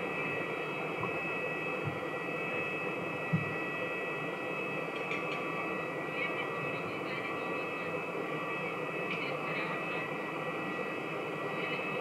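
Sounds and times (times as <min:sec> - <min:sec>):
aircraft machinery whine and hiss: 0:00.0 - 0:12.0.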